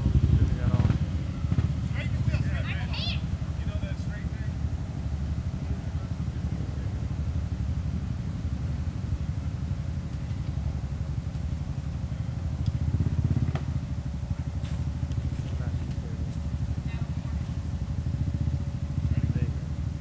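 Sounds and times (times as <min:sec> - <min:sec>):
atv engines idling: 0:00.0 - 0:20.0.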